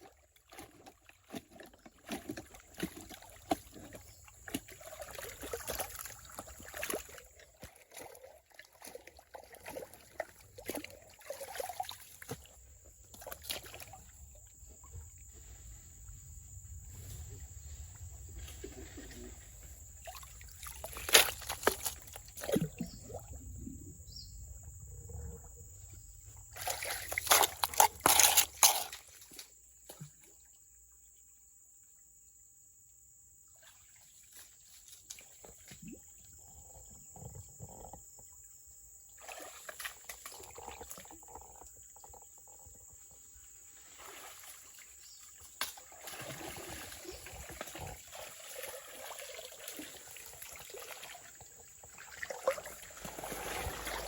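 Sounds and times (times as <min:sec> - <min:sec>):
water splashing and trickling: 0:00.0 - 0:30.8, 0:33.5 - 0:54.0.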